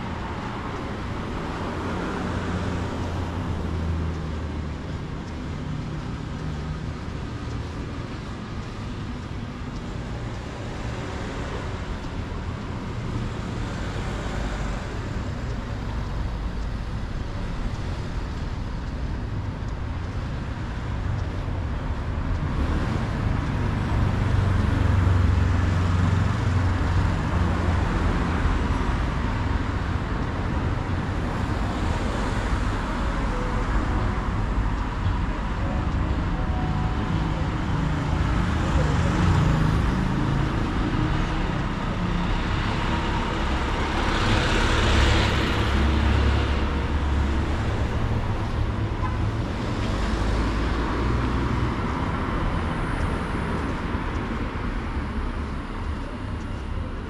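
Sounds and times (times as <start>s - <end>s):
hum of traffic: 0.0s - 57.0s
vehicle engine rumble passing: 0.0s - 57.0s.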